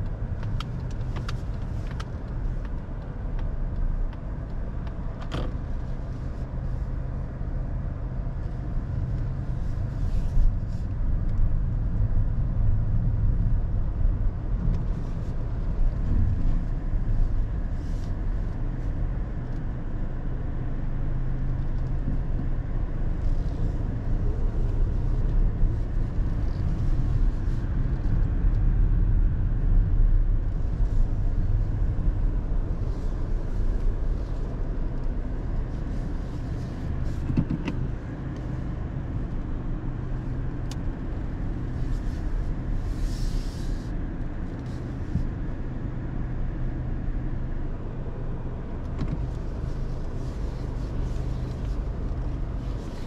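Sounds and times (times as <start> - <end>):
car engine running: 0.0 - 53.0.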